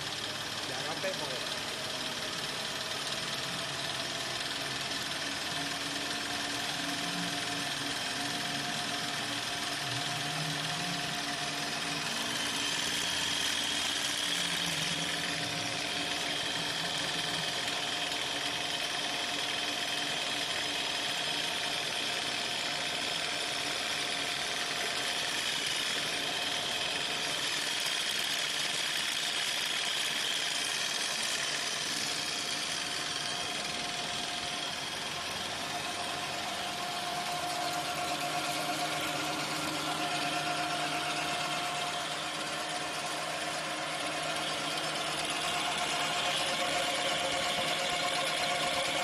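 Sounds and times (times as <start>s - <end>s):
paper rolling machine running: 0.0s - 49.0s.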